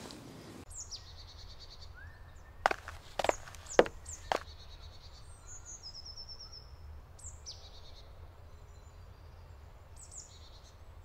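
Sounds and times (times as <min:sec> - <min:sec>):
songbirds singing faintly: 0:00.2 - 0:11.0.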